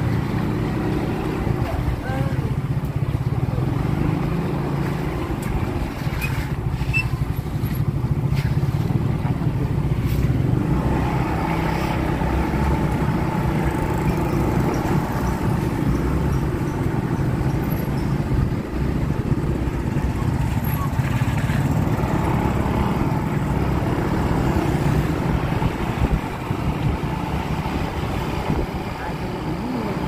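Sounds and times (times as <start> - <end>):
motor scooter engine rumble: 0.0 - 30.0.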